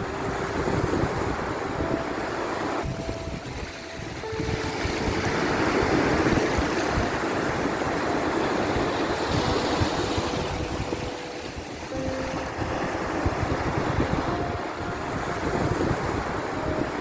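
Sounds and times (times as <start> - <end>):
sea waves rushing: 0.0 - 17.0.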